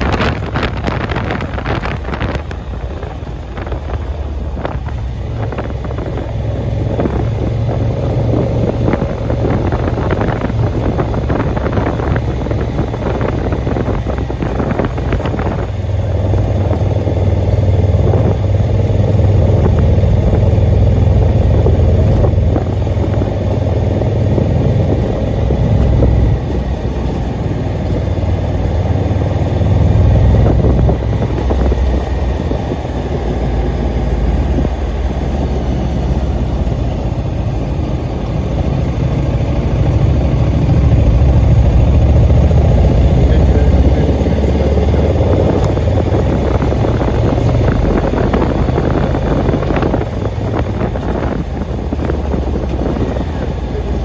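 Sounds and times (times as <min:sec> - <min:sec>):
road noise: 0:00.0 - 0:54.0
vehicle engine running: 0:00.0 - 0:54.0.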